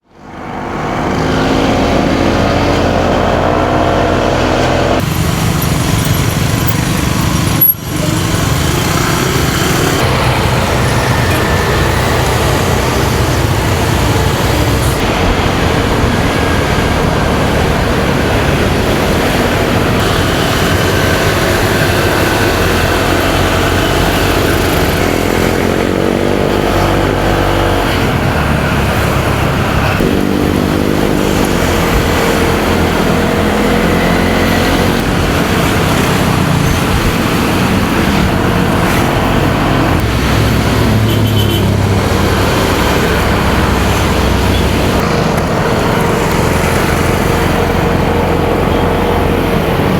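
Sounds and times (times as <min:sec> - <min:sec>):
road noise: 0:00.0 - 0:49.9
motorcycle engine accelerating: 0:00.1 - 0:49.9
wind on microphone: 0:01.6 - 0:49.9.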